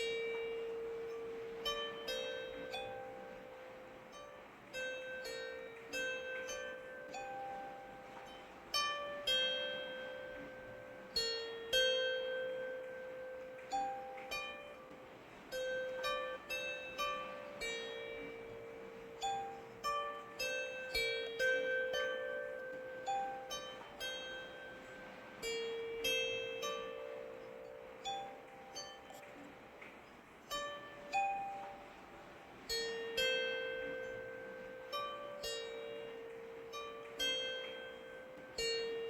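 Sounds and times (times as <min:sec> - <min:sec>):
plucked string melody: 0:00.0 - 0:39.0.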